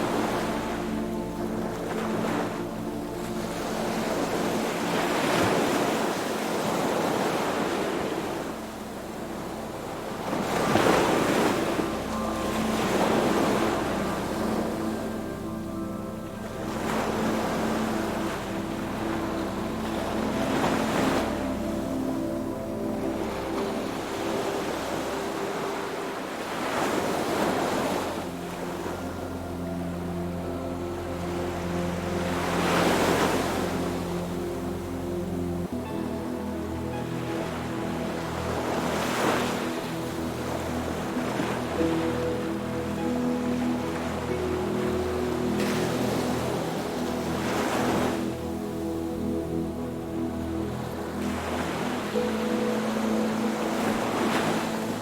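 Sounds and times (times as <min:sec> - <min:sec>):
ocean waves washing in: 0:00.0 - 0:55.0
soft sustained music chords: 0:00.0 - 0:55.0.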